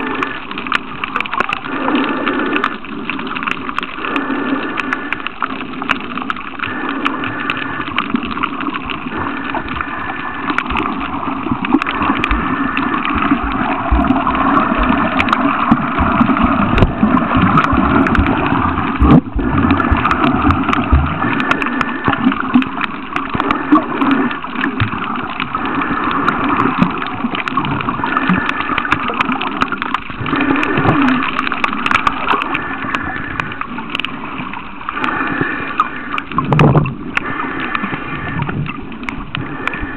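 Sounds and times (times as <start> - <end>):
water rushing and gurgling: 0.0 - 39.9
small clicks: 0.1 - 35.1.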